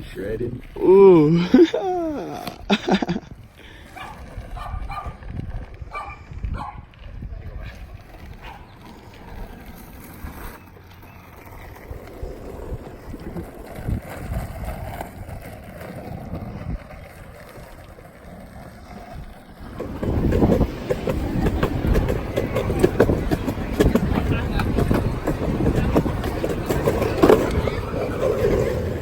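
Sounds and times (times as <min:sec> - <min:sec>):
skateboard wheels rolling on pavement: 0:00.0 - 0:29.0
wind buffeting microphone: 0:01.5 - 0:10.6, 0:11.5 - 0:18.1, 0:18.7 - 0:29.0
skateboard clacks: 0:02.3 - 0:29.0.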